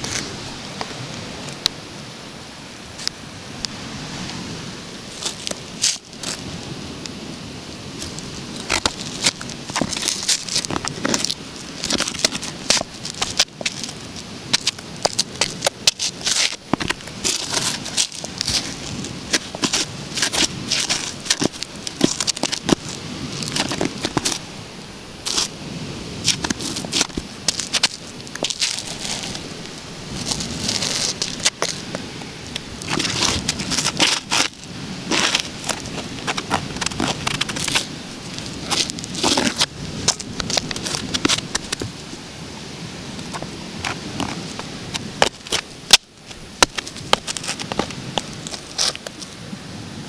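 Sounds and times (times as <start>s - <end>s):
background hiss: 0.0s - 50.0s
shoe scraping on concrete step: 5.1s - 6.5s, 8.0s - 24.5s, 25.2s - 25.6s, 26.2s - 42.1s, 43.2s - 49.4s.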